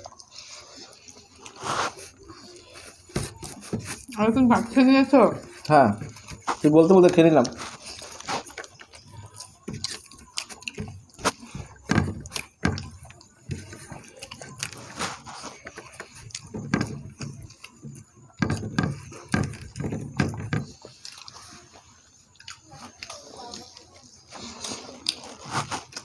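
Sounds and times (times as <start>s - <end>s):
chewing and mouth smacks: 0.0s - 4.2s, 5.4s - 18.4s, 20.7s - 26.0s
fingers working rice on plates: 0.0s - 26.0s.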